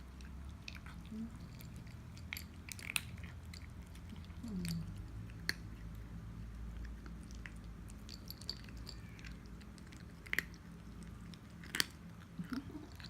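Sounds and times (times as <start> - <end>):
cat crunching dry food: 0.0 - 13.0.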